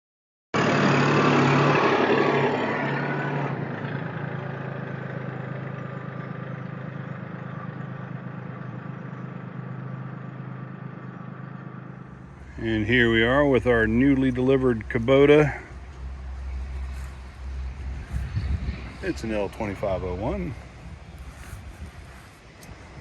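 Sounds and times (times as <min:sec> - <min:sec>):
tractor diesel engine running: 0:00.6 - 0:23.0.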